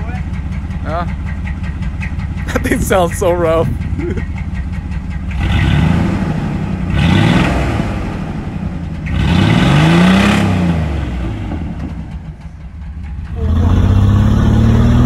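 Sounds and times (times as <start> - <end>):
pickup engine revving: 0.0 - 15.0.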